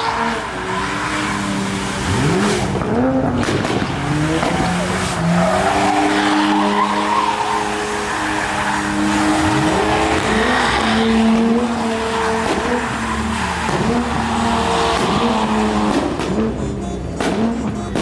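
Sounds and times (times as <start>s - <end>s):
car engine at high revs: 0.0s - 18.0s
tyres spinning and squealing: 0.0s - 18.0s.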